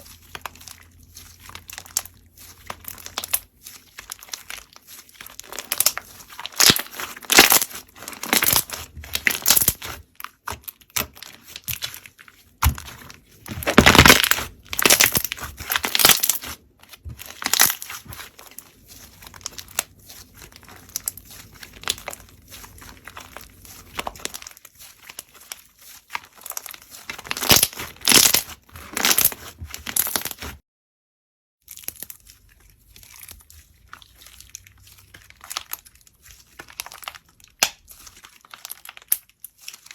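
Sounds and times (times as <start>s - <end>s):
slime crackling and popping: 0.0s - 30.6s, 31.7s - 39.9s.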